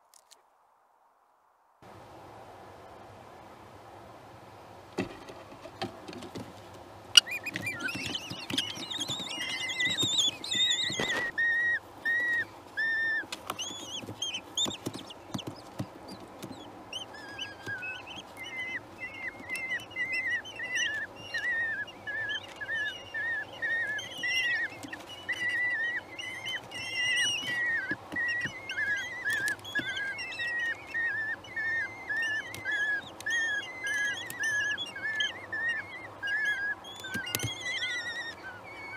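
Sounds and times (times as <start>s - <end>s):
bird chicks begging calls: 7.1s - 38.9s.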